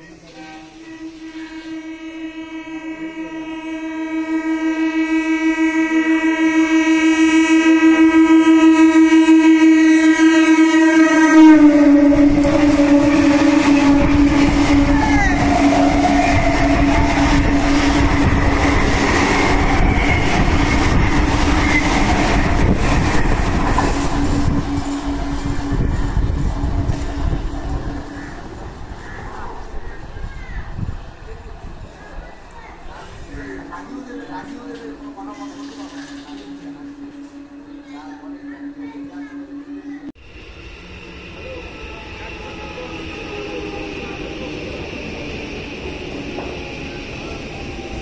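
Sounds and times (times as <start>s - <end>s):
train horn: 0.0s - 29.6s, 33.0s - 45.4s
train coaches rushing past: 7.2s - 48.0s.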